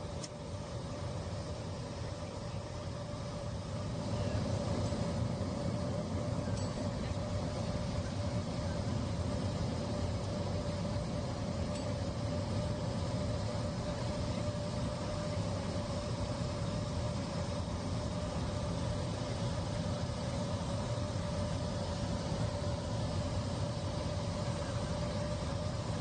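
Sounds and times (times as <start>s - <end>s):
airliner cabin engine and airflow noise: 0.0s - 26.0s
constant mid-pitched hum: 0.0s - 26.0s.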